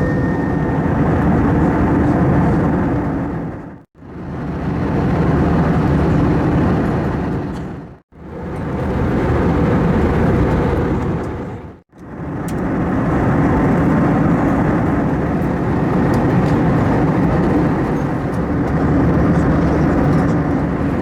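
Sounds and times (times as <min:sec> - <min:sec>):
jet cabin engine rumble: 0:00.0 - 0:21.0.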